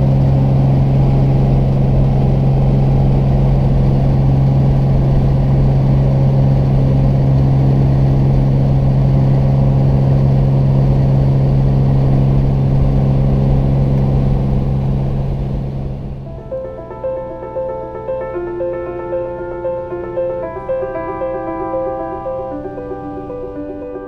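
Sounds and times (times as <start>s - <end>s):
light aircraft engine drone: 0.0s - 24.0s.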